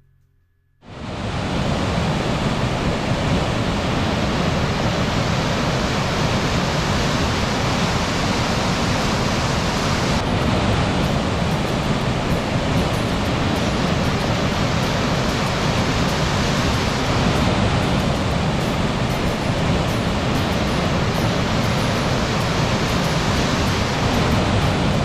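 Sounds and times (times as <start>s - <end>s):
roar of rushing water: 1.0s - 25.0s.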